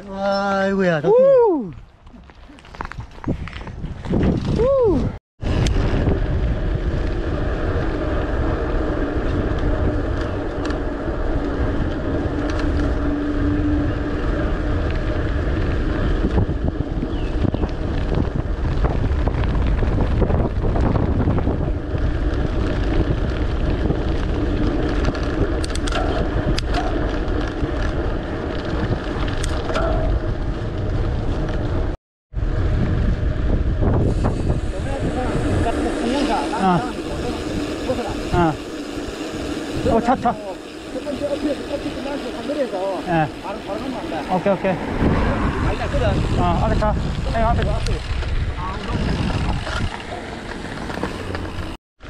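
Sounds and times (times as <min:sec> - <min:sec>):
wind buffeting microphone: 0:01.1 - 0:42.3, 0:43.0 - 0:51.8
tyres rumbling on asphalt: 0:05.4 - 0:51.8.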